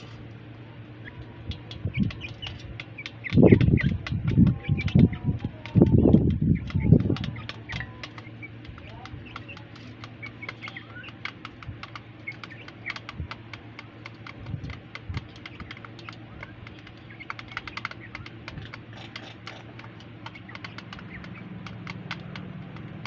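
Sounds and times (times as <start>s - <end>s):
steady low hum: 0.0s - 23.0s
faint bird calls: 0.9s - 13.4s, 14.0s - 23.0s
beaks tapping on metal plate: 1.1s - 23.0s.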